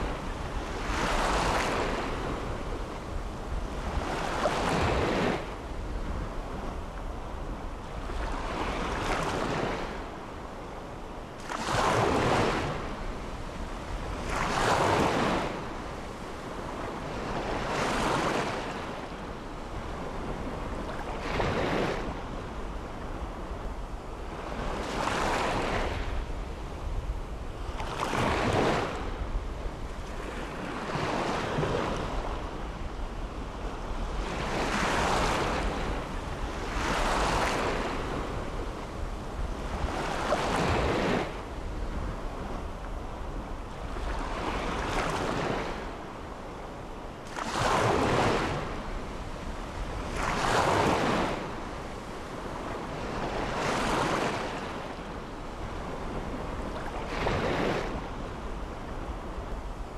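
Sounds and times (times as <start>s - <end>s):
small waves breaking on sand: 0.0s - 10.2s, 11.3s - 59.9s.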